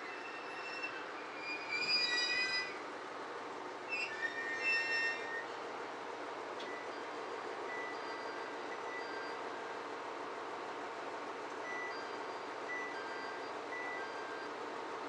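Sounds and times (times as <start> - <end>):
diesel railcar idling: 0.0 - 15.0.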